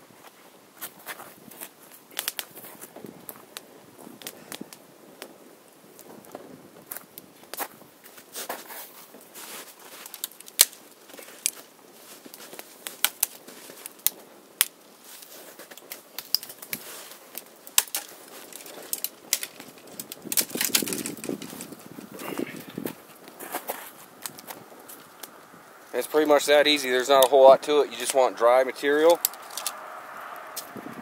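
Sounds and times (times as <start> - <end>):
twig fire crackling and popping: 0.0 - 31.0.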